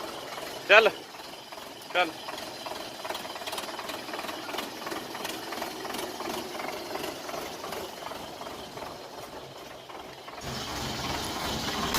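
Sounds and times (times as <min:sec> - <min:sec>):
tractor diesel engine clattering: 0:00.0 - 0:11.9.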